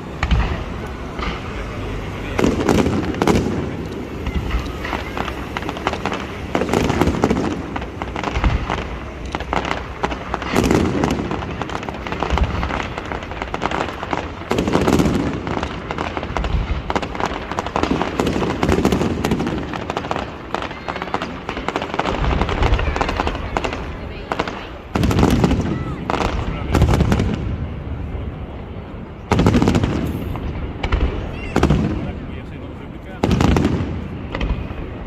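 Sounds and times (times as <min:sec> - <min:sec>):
fireworks booms: 0:00.0 - 0:35.0
fireworks crackling: 0:00.0 - 0:35.0.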